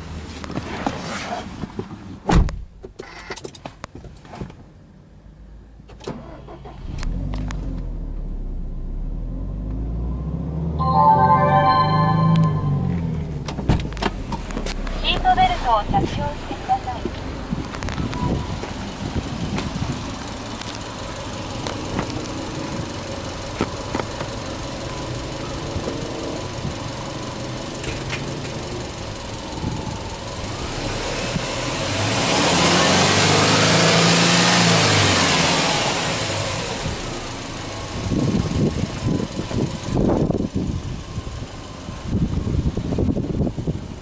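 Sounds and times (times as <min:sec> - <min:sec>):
car engine idling and revving: 0:00.0 - 0:10.9, 0:11.7 - 0:44.0.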